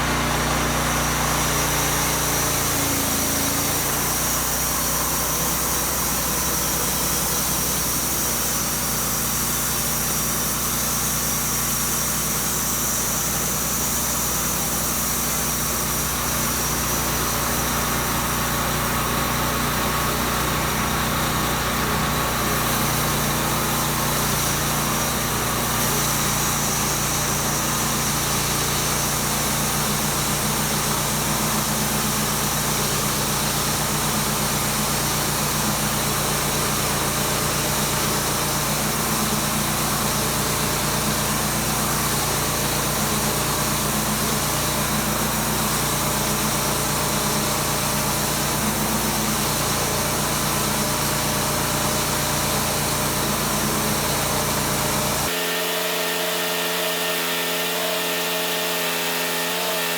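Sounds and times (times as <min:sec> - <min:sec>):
petrol engine running: 0:00.0 - 0:55.4.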